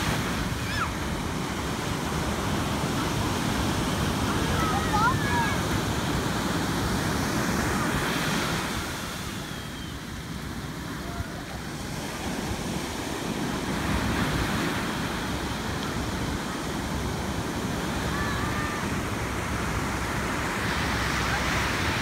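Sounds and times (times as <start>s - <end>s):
ocean waves breaking on beach: 0.0s - 22.0s.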